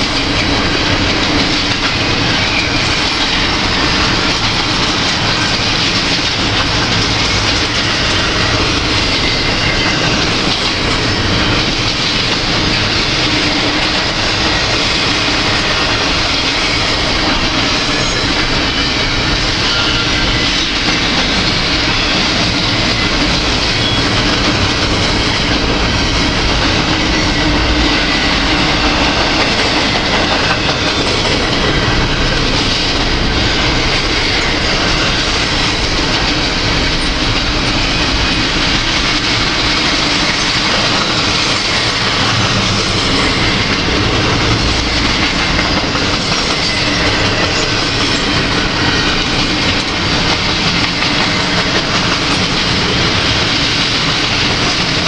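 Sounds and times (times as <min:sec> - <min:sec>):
steel train wheels on rails: 0:00.0 - 0:55.0.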